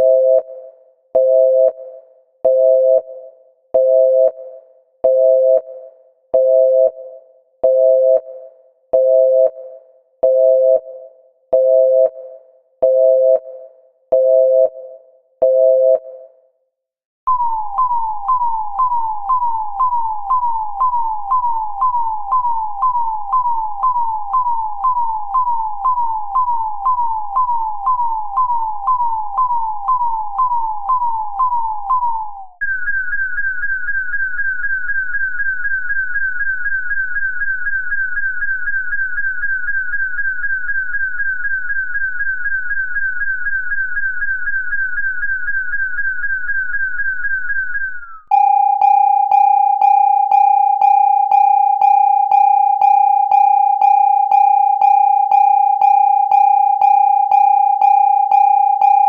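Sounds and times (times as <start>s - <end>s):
electronic alarm tones: 0.0s - 0.6s, 1.2s - 16.3s, 17.3s - 59.0s.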